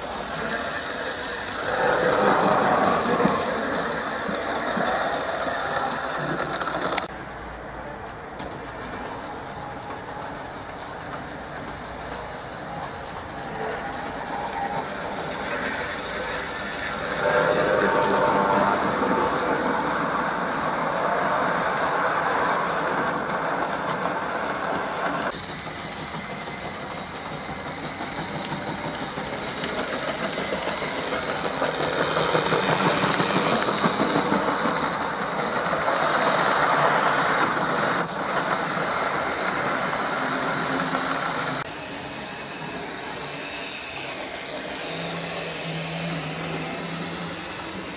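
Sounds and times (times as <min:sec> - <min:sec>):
model train rattling on rails: 0:00.0 - 0:47.9.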